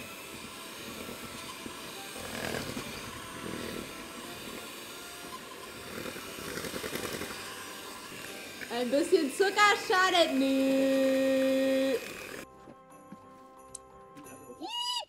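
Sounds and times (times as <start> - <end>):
electric hand mixer whisking: 0.0 - 12.5.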